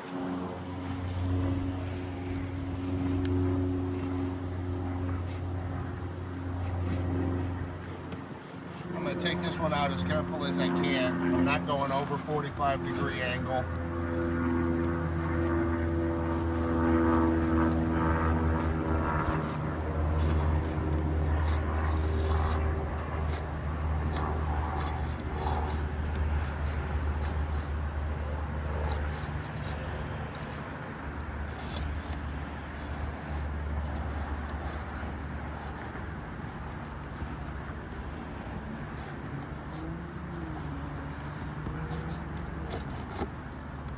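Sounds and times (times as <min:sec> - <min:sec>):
low engine-like hum: 0:00.0 - 0:43.9
scrapes and taps on roof shingle: 0:00.1 - 0:43.9.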